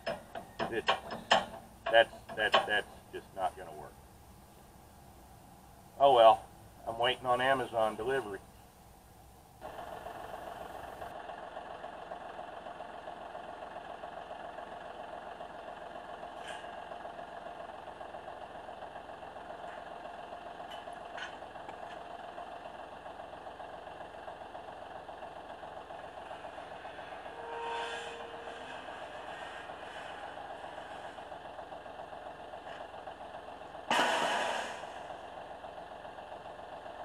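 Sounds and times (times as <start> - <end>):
diesel tractor idling: 0.0 - 37.0.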